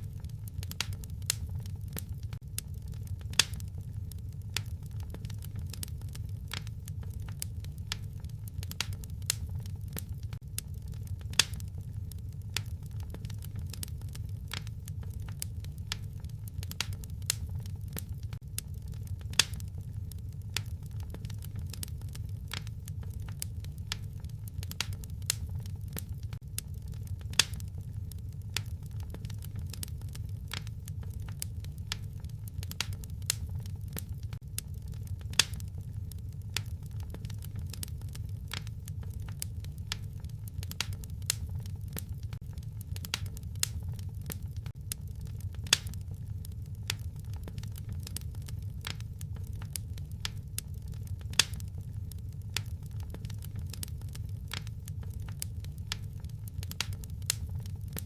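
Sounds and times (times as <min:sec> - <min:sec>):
fire pops: 0:00.0 - 0:58.0
wood fire crackling: 0:00.0 - 0:58.0.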